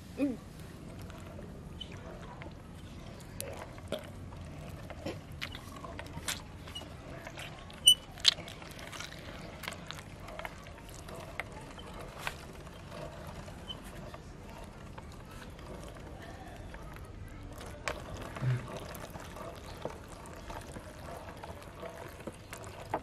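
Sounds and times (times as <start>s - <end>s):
wet squishing of tomato pulp: 0.5s - 23.0s.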